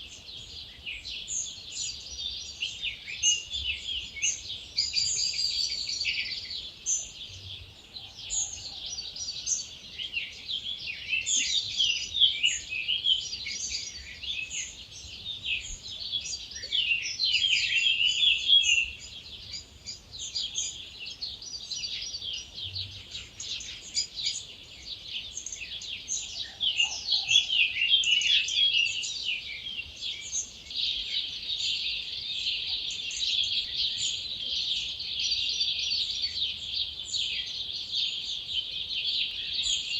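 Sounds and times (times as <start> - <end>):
many birds singing: 0.0 - 39.9.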